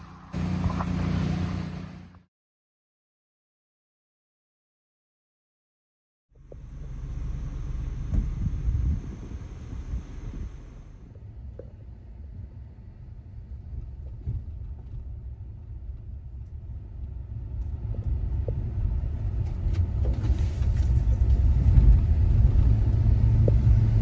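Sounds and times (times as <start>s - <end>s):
vehicle rumbling in motion: 0.0s - 2.3s, 6.4s - 24.0s.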